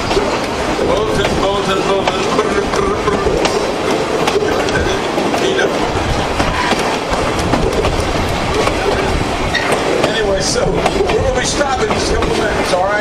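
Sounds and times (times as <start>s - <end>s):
train rumbling on track: 0.0s - 13.0s
wheels clicking over rail joints: 0.0s - 13.0s.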